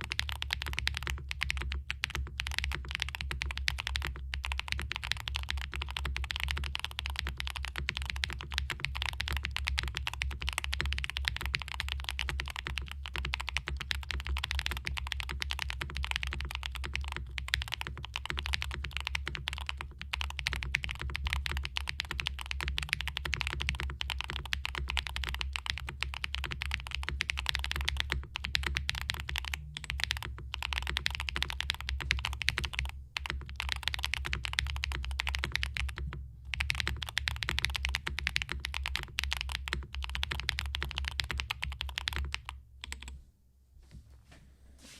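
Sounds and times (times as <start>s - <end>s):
fast mechanical keyboard typing: 0.0s - 43.1s.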